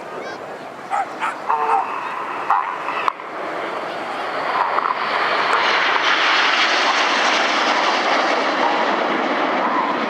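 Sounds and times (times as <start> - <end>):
jets flying past: 0.0 - 10.0.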